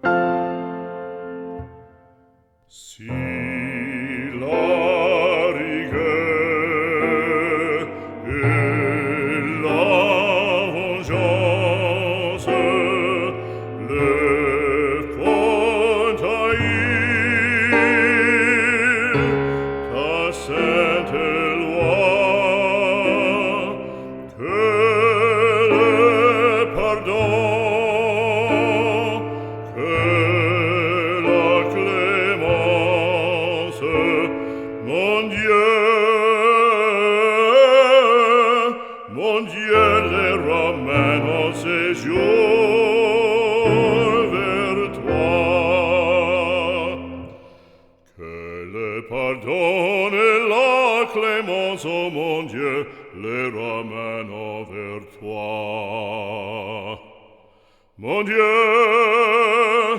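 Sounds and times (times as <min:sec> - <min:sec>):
operatic voice singing: 0:02.7 - 0:59.9.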